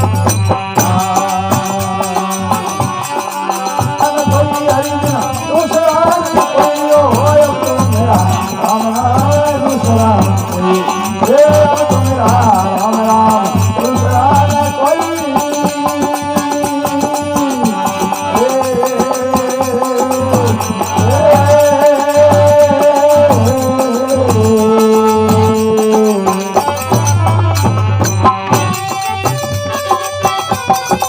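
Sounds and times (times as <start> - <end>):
hand cymbals keeping time: 0.0 - 31.0
steady drum rhythm: 0.0 - 31.0.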